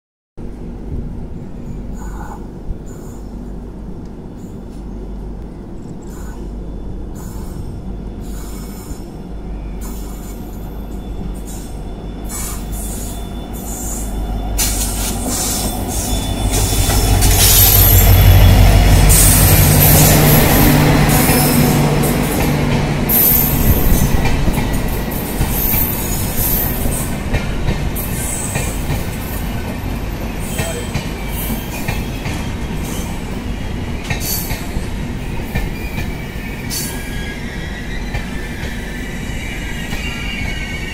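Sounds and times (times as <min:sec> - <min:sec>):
diesel locomotive engine passing: 0:00.4 - 0:40.9
train wheels clattering and squealing: 0:01.6 - 0:03.5, 0:05.8 - 0:40.9.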